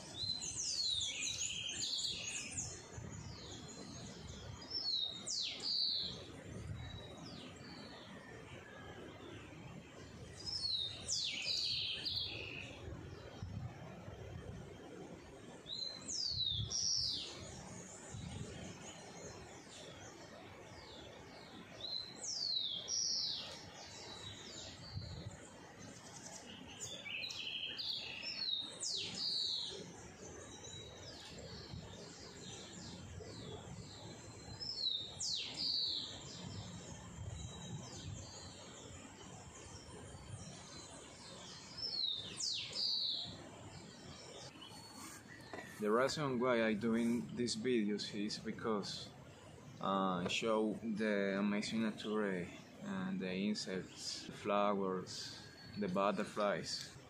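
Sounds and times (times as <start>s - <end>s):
bird singing: 0.0s - 57.0s
faint outdoor background: 0.0s - 57.0s.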